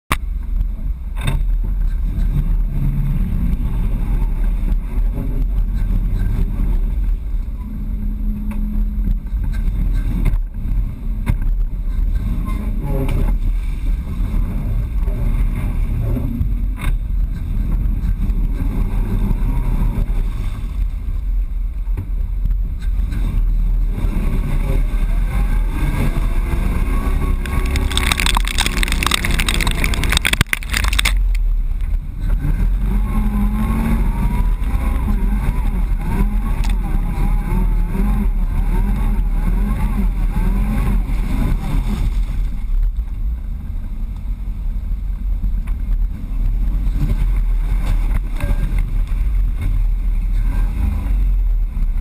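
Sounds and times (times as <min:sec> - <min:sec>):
truck engine rumbling under load: 0:00.1 - 0:52.0.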